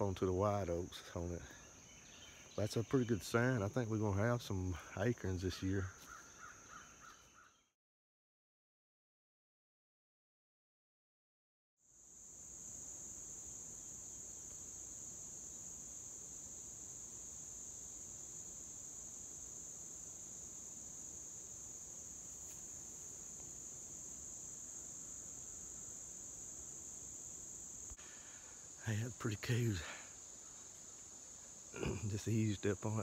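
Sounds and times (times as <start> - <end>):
high-pitched insect chorus: 0.0 - 7.5, 11.8 - 33.0.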